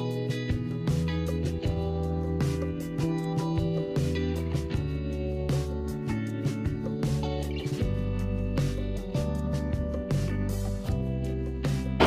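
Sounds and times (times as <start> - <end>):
strummed guitar music: 0.0 - 12.0.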